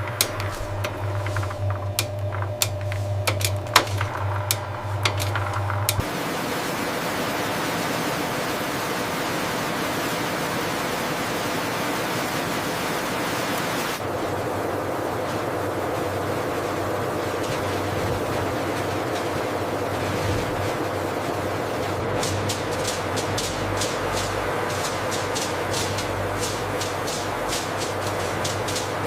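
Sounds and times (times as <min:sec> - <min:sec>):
machinery clicks and clatter: 0:00.0 - 0:06.3, 0:07.9 - 0:29.0
machinery humming: 0:00.0 - 0:29.0
steady rushing noise: 0:00.0 - 0:29.0.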